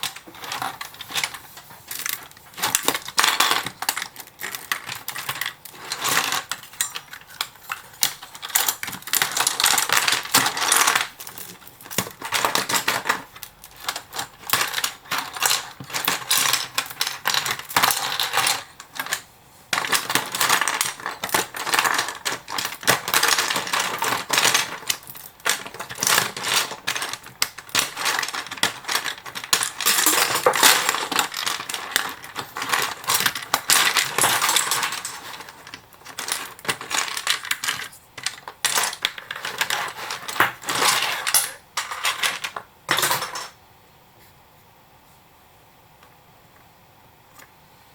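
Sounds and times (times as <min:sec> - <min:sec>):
plastic bricks clicking and clattering: 0:00.0 - 0:43.6.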